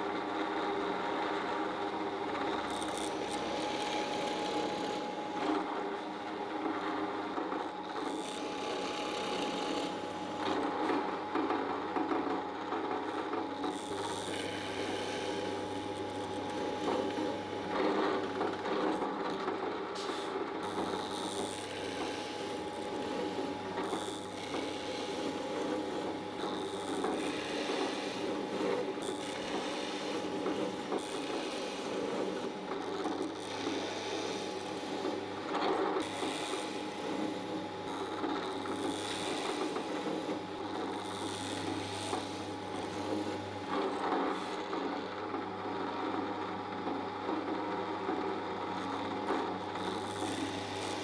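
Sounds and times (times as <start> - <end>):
drill press motor hum: 0.2 - 51.0.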